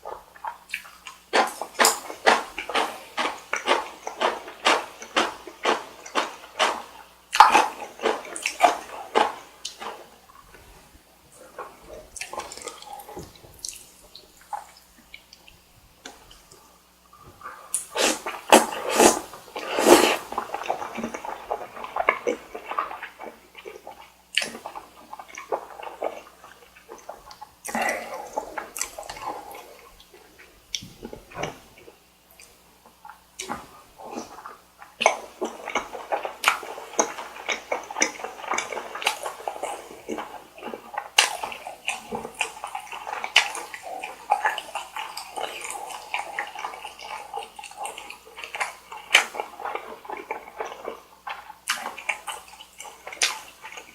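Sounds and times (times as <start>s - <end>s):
wet chewing and mouth sounds: 0.0s - 53.9s.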